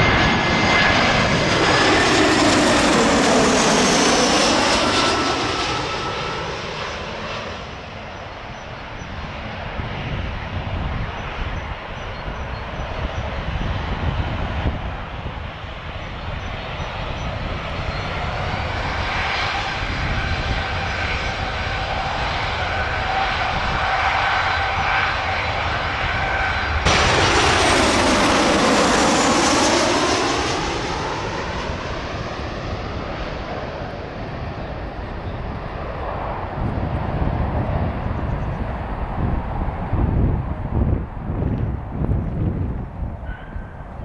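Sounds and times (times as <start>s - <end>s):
airliner roaring overhead: 0.0s - 44.0s
jet engines whining: 0.0s - 44.0s.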